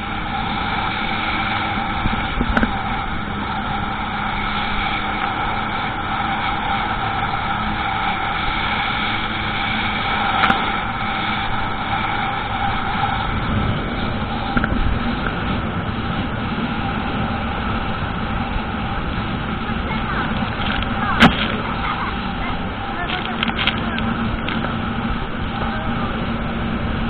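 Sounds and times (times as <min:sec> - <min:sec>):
jet ski engine running: 0:00.0 - 0:27.0
rushing water: 0:00.0 - 0:27.0.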